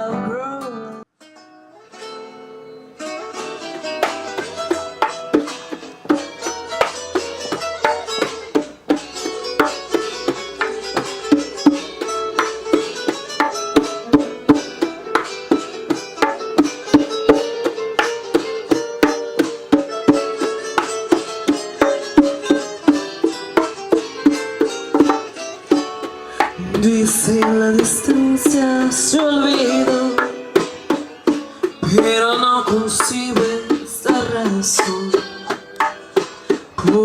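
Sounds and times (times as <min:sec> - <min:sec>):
plucked strings: 0:00.0 - 0:37.0
fast percussive beat: 0:04.0 - 0:37.0.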